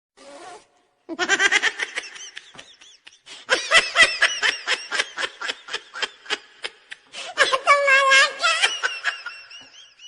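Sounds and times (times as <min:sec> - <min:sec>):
person laughing: 0:01.1 - 0:10.0.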